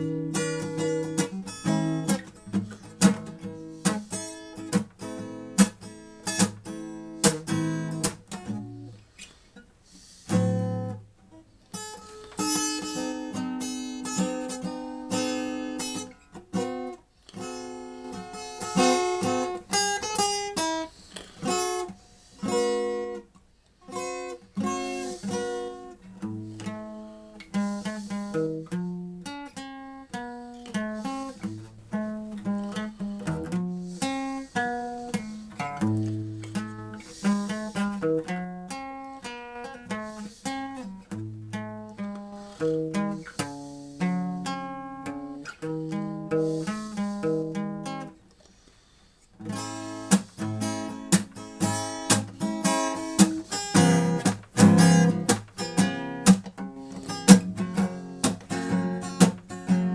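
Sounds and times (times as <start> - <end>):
acoustic guitar music: 0.0 - 59.9.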